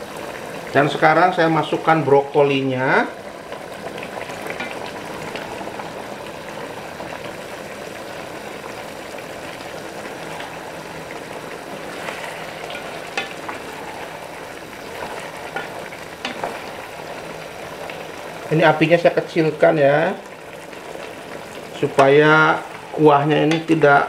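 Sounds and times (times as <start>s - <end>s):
sauce bubbling: 0.0s - 24.0s.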